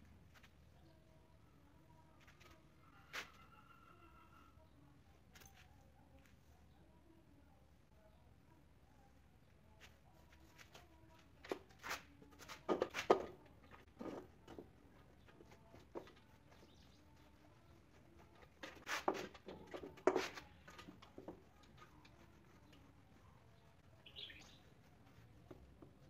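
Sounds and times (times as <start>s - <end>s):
faint steady background noise: 0.0s - 26.0s.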